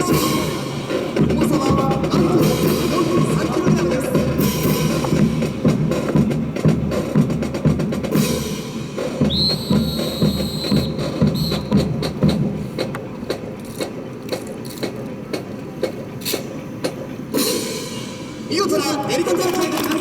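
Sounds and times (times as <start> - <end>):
percussion drums beating: 0.0 - 20.0.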